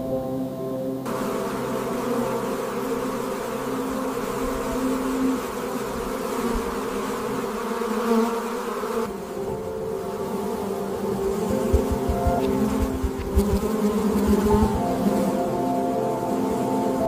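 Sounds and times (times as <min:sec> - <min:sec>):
honeybees buzzing: 0:01.0 - 0:17.0.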